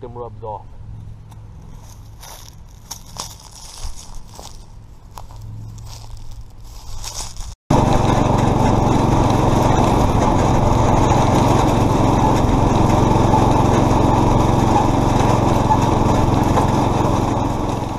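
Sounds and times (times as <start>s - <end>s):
riding lawn mower engine running: 0.8s - 17.9s.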